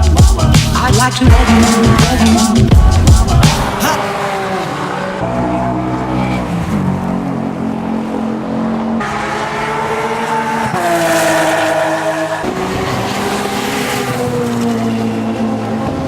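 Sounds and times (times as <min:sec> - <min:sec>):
racing car engines passing: 0:00.9 - 0:16.0.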